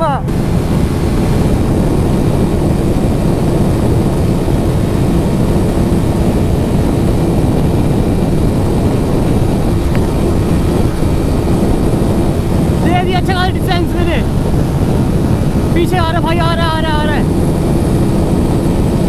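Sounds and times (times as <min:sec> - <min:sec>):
motorcycle engine at speed: 0:00.0 - 0:19.0
wind rush on microphone: 0:00.0 - 0:19.0.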